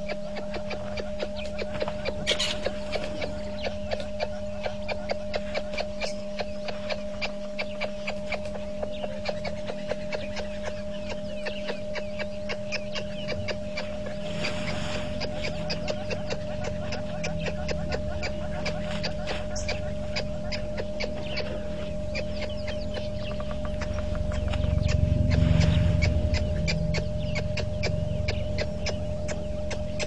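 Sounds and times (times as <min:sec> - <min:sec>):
rapid clicking animal calls: 0:00.0 - 0:25.4, 0:26.0 - 0:30.0
constant tone: 0:00.0 - 0:30.0
steady hum: 0:00.0 - 0:30.0.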